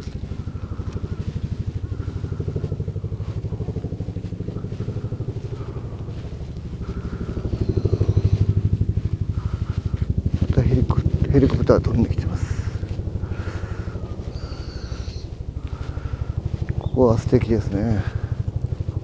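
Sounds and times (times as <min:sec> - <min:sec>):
helicopter rotor beating: 0:00.0 - 0:19.0.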